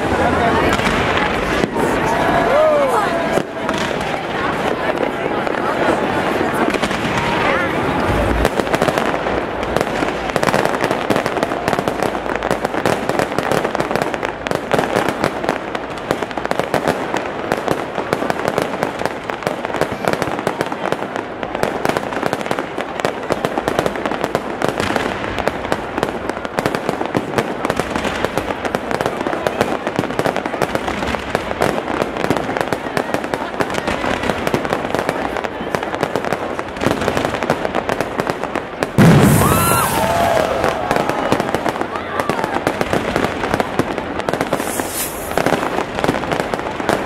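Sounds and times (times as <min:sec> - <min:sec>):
fireworks crackling and popping: 0:00.0 - 0:47.0.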